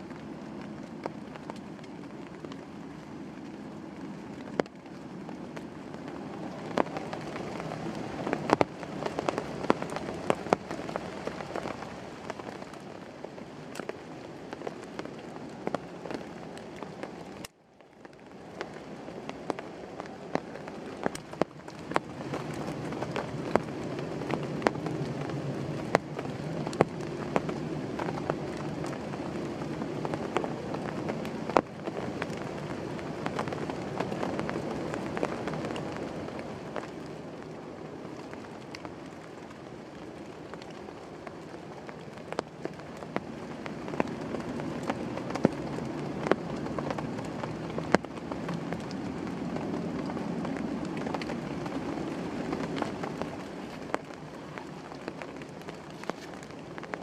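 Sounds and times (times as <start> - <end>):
rain falling steadily: 0.0 - 57.0
sharp raindrops striking: 0.0 - 57.0.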